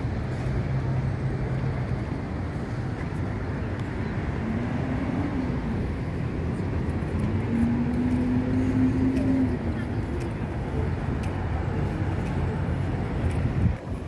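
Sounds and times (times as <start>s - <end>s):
engine hum: 0.0s - 14.0s
traffic rumble: 0.0s - 14.0s.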